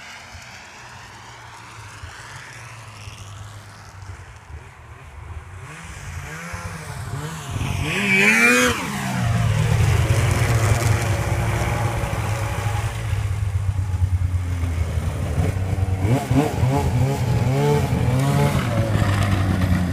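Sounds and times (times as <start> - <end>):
snowmobile engine running: 0.0 - 19.9.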